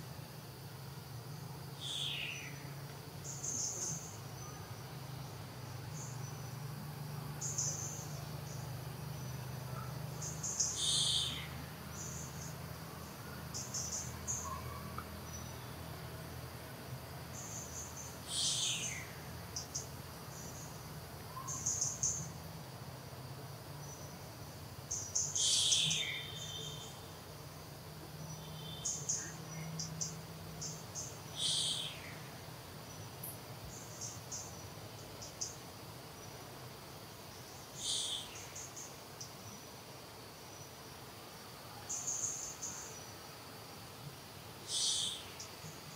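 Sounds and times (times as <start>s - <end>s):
insects chirping in high bursts: 0.0s - 45.9s.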